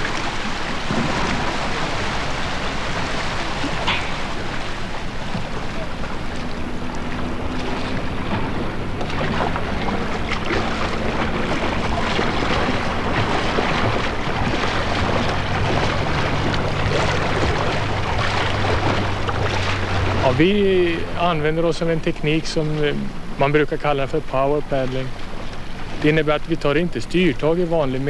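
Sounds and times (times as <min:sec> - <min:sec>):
wind buffeting microphone: 0:00.0 - 0:23.8
low drone: 0:00.0 - 0:28.0
water splashing around boat: 0:00.0 - 0:28.0.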